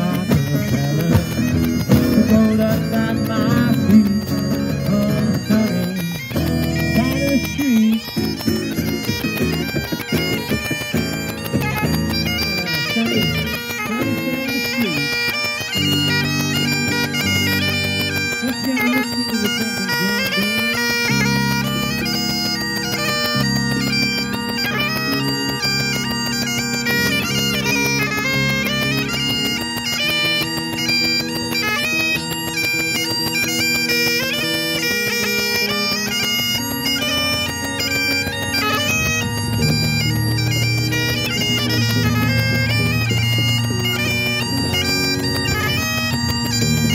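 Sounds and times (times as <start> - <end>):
bagpipes playing: 0.0 - 46.9.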